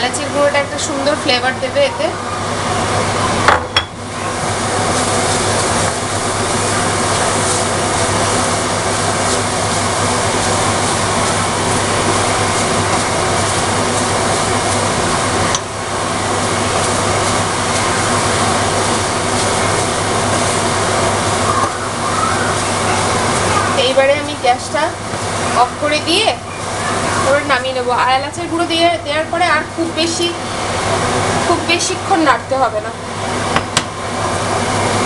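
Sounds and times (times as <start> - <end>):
electric fan whirring: 0.0 - 35.0.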